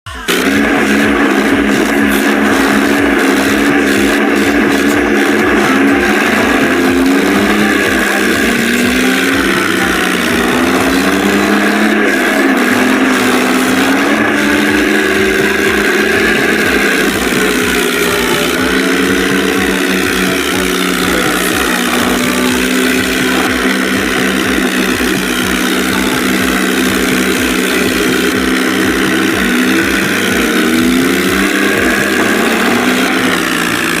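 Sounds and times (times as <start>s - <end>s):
tractor engine revving: 0.0s - 34.0s.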